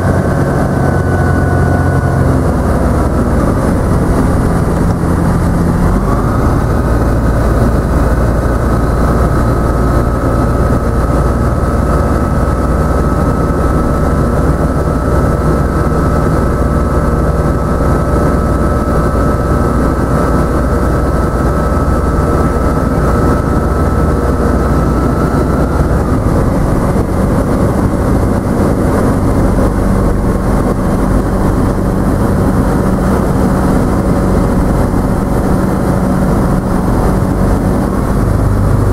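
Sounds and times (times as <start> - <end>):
aircraft engine droning: 0.0 - 38.9.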